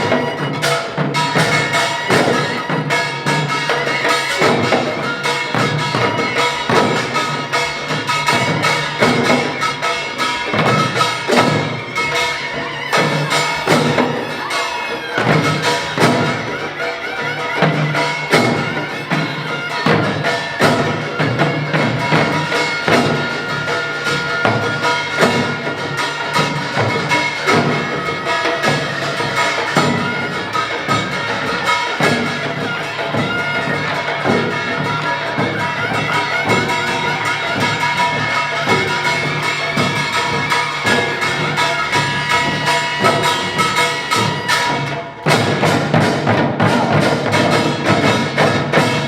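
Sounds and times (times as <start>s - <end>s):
gongs ringing: 0.0s - 46.0s
drums struck in fast rhythm: 0.0s - 49.0s.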